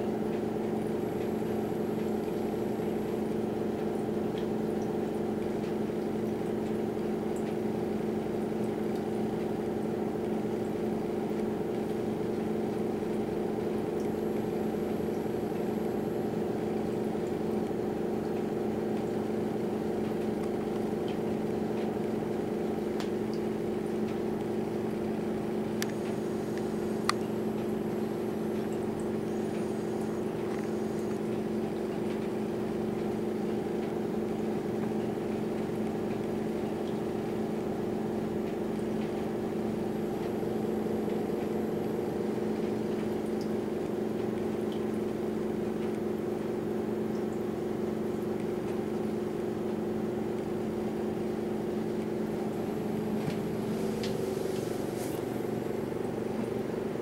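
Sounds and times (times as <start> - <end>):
electric fan motor hum: 0.0 - 57.0.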